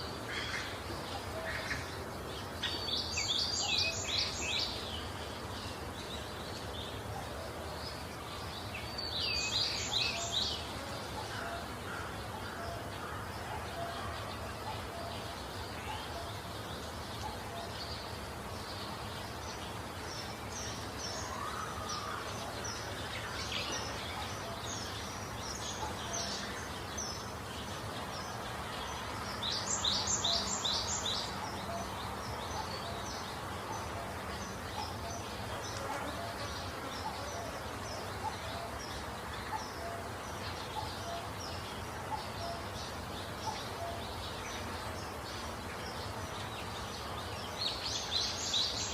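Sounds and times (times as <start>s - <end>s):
background hiss: 0.0s - 48.9s
small birds chirping: 0.0s - 48.9s.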